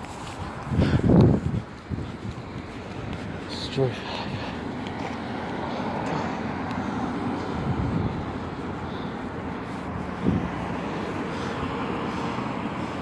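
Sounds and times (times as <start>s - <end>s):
passing cars: 0.0s - 13.0s.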